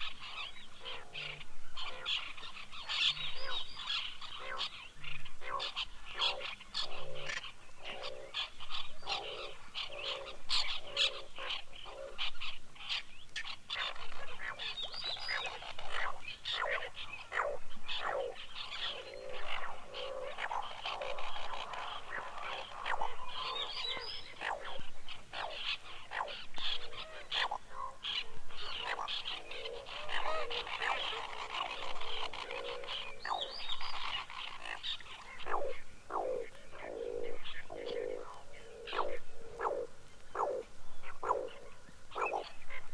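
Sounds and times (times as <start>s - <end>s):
bird calling: 0.0s - 42.9s.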